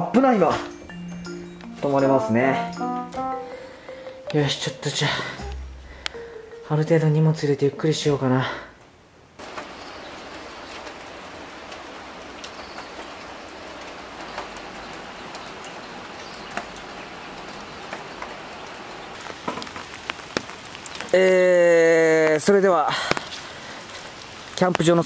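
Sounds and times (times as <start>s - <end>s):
steady rain hiss: 0.0s - 25.0s
raindrops ticking close by: 3.2s - 8.3s, 9.4s - 25.0s.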